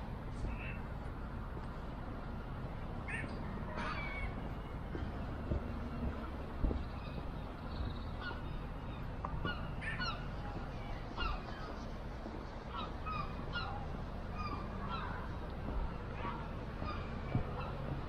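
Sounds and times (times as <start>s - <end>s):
low background noise: 0.0s - 18.0s
gulls calling: 3.0s - 18.0s.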